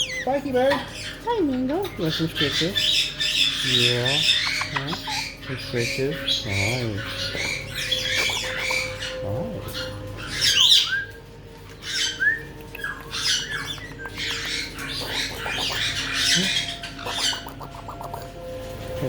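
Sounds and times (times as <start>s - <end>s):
parrots squawking and chattering: 0.0s - 19.0s.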